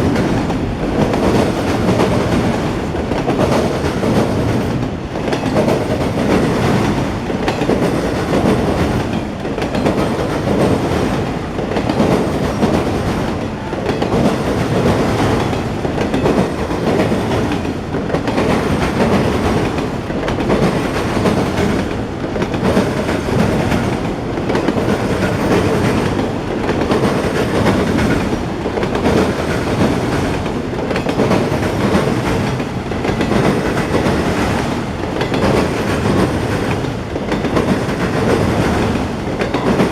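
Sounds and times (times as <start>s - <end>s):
freight train wheels clattering on rail: 0.0s - 39.9s.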